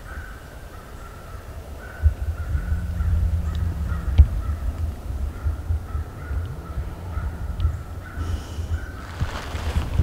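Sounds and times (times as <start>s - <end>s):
crows cawing: 0.0s - 9.7s
steady low rumble: 0.6s - 10.0s.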